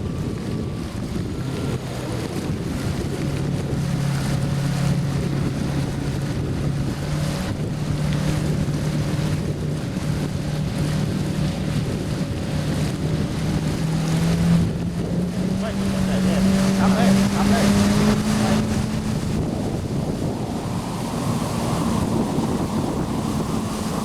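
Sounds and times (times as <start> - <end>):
jet ski engine running: 0.0 - 24.0
water rushing: 0.0 - 24.0
wind buffeting microphone: 0.0 - 24.0.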